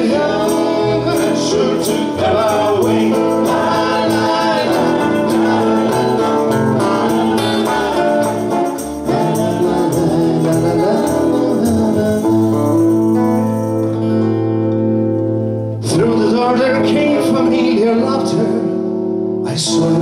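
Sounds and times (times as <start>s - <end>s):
electric bass: 0.0s - 20.0s
keyboard: 0.0s - 20.0s
strummed acoustic guitars: 0.0s - 20.0s.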